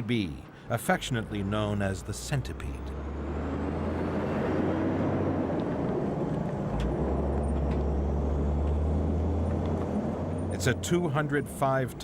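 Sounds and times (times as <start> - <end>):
diesel truck engine drone: 0.0 - 12.0
tyre and road noise: 0.0 - 12.0.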